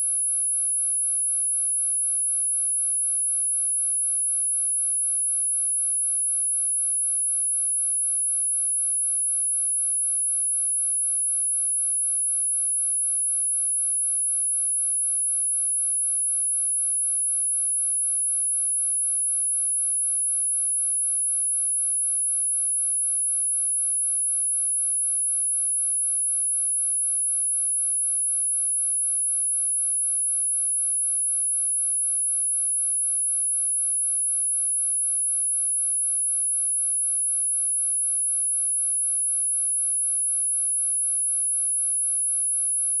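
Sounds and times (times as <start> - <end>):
high-pitched sine-wave test tone: 0.0 - 43.0.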